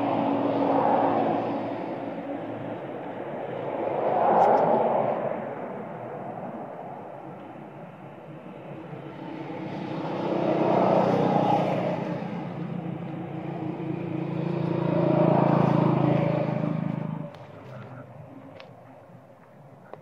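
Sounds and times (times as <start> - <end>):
vehicle engine passing: 0.0 - 20.0.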